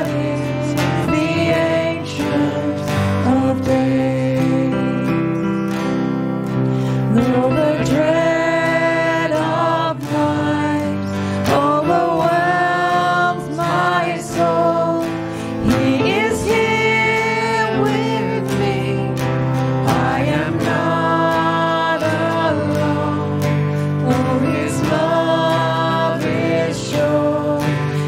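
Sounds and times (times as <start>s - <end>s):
person singing slow melody: 0.0s - 28.0s
sustained guitar accompaniment: 0.0s - 28.0s.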